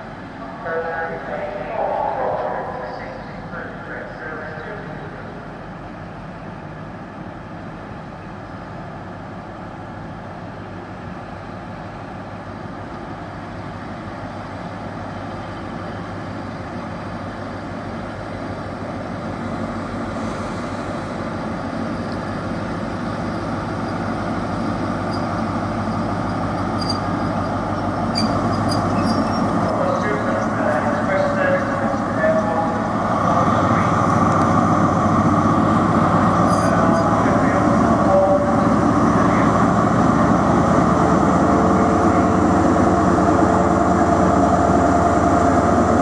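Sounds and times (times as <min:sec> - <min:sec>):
train diesel engine humming: 0:00.0 - 0:46.0.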